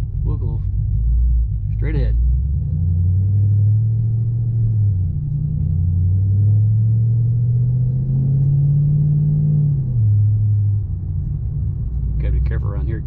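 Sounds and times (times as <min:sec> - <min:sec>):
car engine rumble from cabin: 0:00.0 - 0:13.0.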